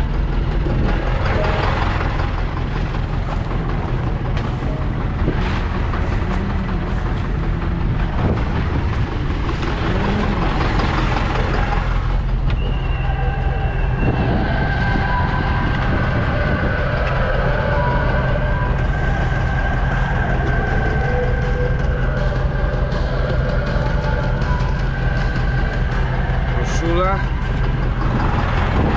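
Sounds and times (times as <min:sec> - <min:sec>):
diesel farm machinery engine drone: 0:00.0 - 0:28.9
high whines: 0:00.0 - 0:28.9.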